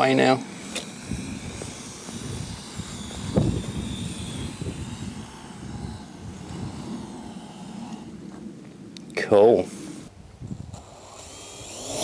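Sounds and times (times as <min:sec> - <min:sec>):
distant drone motors whining: 0:00.0 - 0:12.0
wind buffeting microphone: 0:00.0 - 0:12.0.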